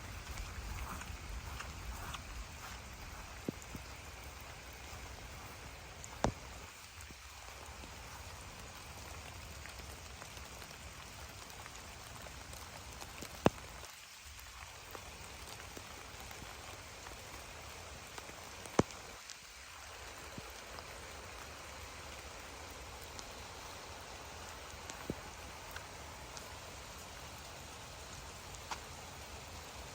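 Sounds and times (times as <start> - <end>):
rain on leaves and ground: 0.0 - 29.9.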